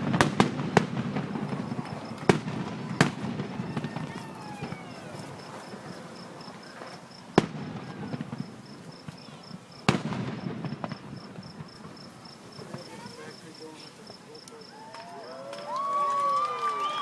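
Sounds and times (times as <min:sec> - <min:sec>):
fireworks bangs: 0:00.0 - 0:17.0
rumbling crackle of fireworks: 0:00.0 - 0:17.0.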